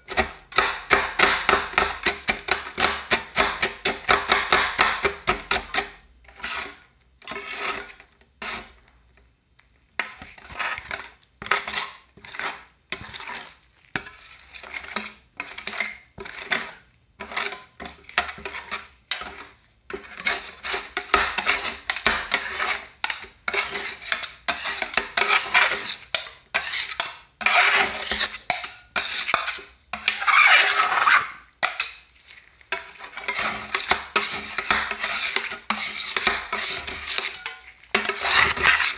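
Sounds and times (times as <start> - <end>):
metal spatulas scraping steel plate: 0.0 - 8.8, 10.0 - 38.9.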